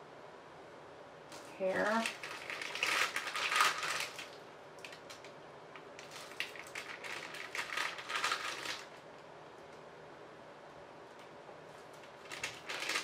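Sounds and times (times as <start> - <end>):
rustling and clicking handling noise: 1.3 - 9.9, 11.0 - 13.0.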